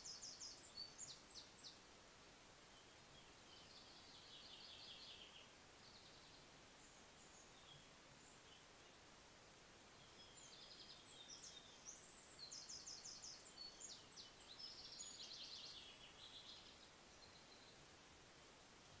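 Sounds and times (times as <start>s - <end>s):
songbird singing trills: 0.0s - 1.9s, 2.7s - 9.0s, 9.9s - 17.9s.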